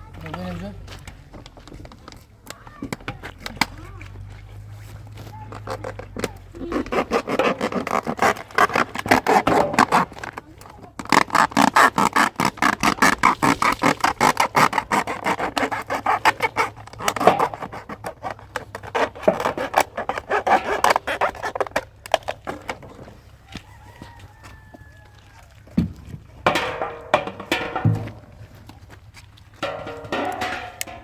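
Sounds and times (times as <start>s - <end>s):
hand scraping back and forth: 1.6s - 31.0s.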